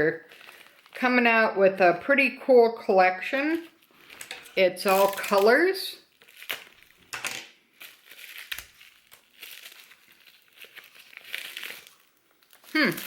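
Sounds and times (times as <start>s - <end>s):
packaging crinkling: 0.0s - 1.1s, 3.5s - 13.0s.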